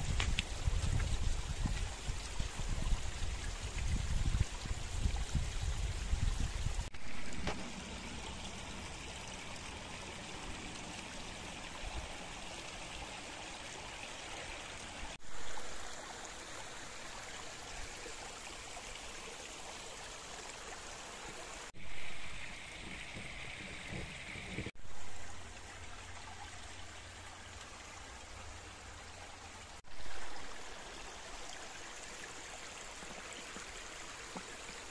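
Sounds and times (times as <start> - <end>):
stream splashing over rocks: 0.0 - 34.9.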